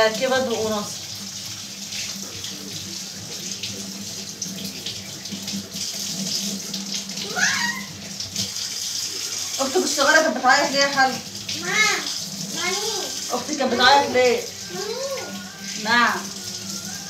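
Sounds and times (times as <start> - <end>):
dishes being rinsed: 0.0 - 17.0.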